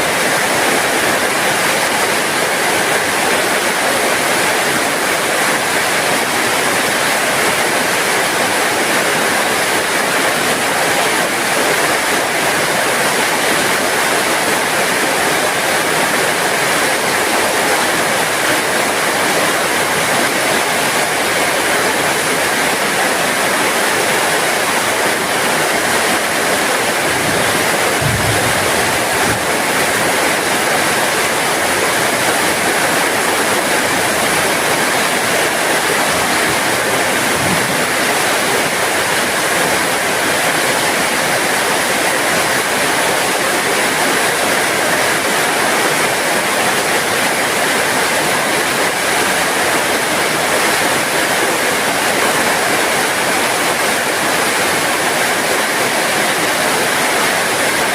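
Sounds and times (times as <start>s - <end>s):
heavy rain hissing: 0.0s - 57.9s.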